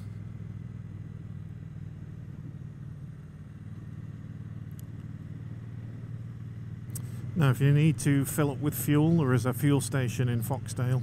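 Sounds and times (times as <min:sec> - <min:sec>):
motorcycle engine humming: 0:00.0 - 0:11.0.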